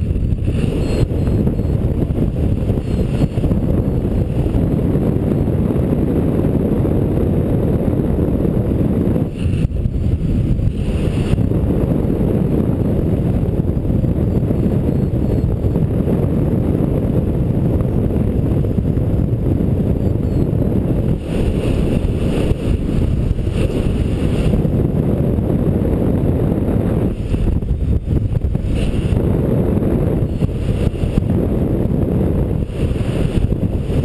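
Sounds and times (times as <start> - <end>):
wind buffeting the microphone: 0.0 - 34.0.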